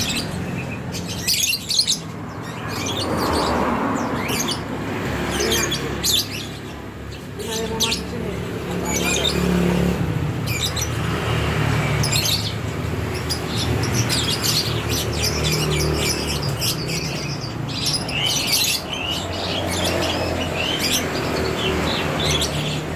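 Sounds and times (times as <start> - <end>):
lovebirds chirping: 0.0 - 22.9.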